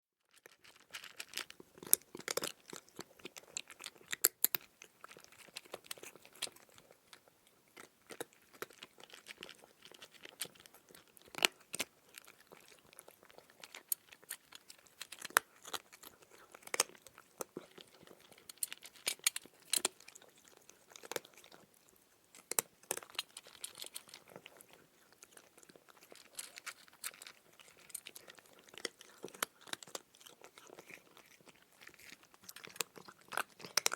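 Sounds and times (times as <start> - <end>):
cat crunching dry kibble: 0.3 - 33.9.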